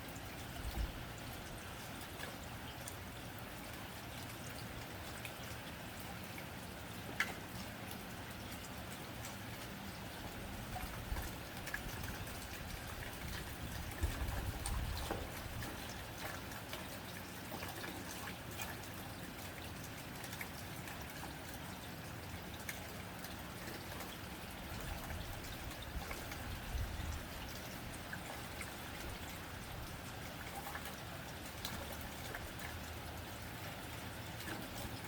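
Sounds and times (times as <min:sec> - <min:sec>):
rain on a tin roof: 0:00.0 - 0:35.0.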